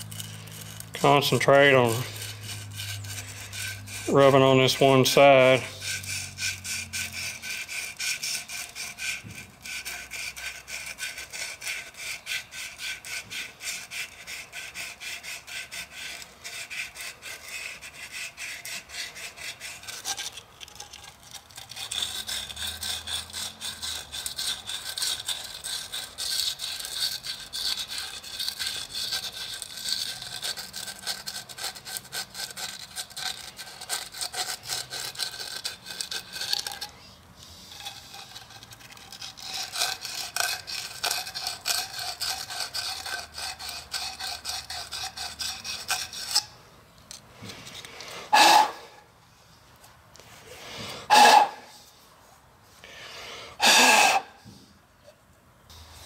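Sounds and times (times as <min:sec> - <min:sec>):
emery cloth scratching in steel bore: 0:00.0 - 0:52.4.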